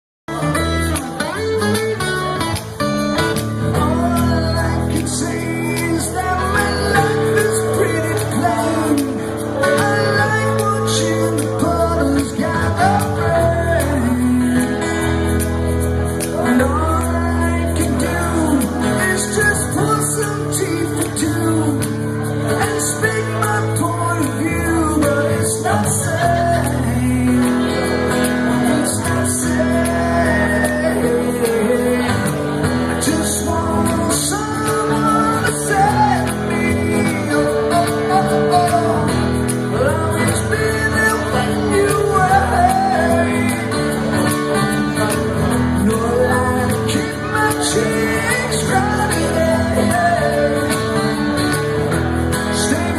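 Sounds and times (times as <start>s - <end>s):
person singing: 0.3s - 52.9s.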